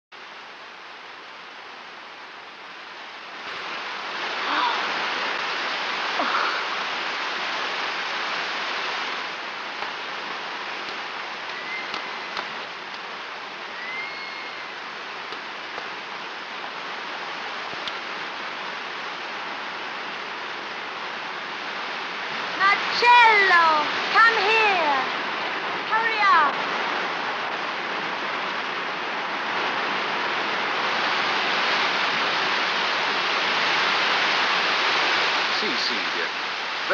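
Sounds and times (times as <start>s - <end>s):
fountain water rushing and splashing: 0.2s - 36.9s.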